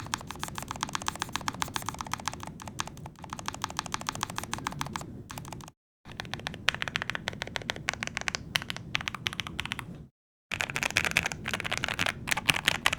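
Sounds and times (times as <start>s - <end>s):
fast mechanical keyboard typing: 0.0s - 9.9s, 10.5s - 12.9s.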